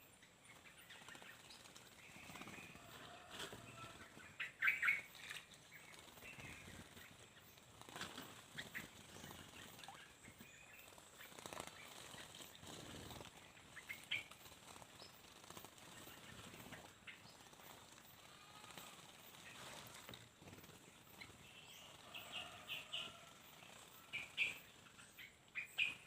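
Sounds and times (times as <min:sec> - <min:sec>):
small birds chirping: 0:00.0 - 0:26.0
wings flapping: 0:00.5 - 0:25.0.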